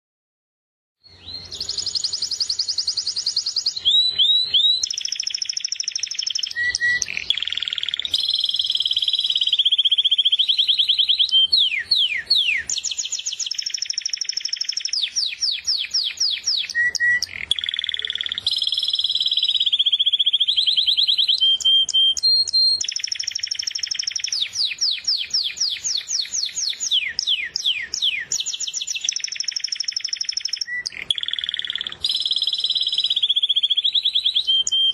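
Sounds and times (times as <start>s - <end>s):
canary singing: 1.0s - 34.9s.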